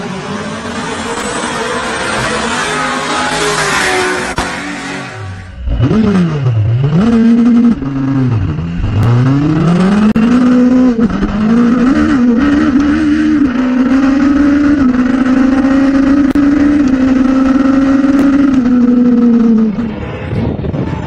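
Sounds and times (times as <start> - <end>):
motorcycle engine at full throttle: 0.0 - 21.0.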